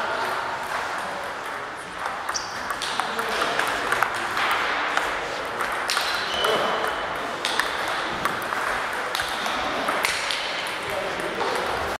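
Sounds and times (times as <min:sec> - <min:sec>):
table tennis balls clicking: 0:00.0 - 0:11.9.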